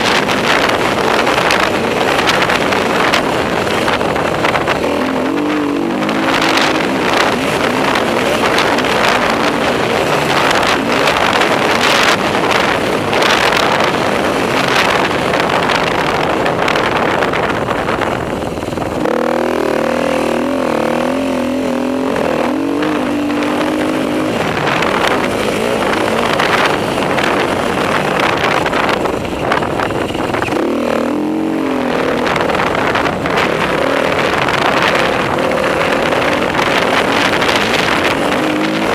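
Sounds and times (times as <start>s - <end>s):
motorcycle engine revving: 0.0s - 38.9s
wind buffeting microphone: 0.0s - 38.9s.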